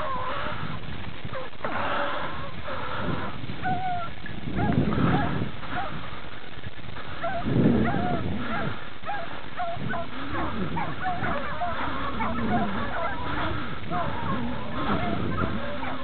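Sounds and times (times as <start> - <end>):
distant dogs baying: 0.0 - 16.0
low rumbling noise: 0.0 - 16.0.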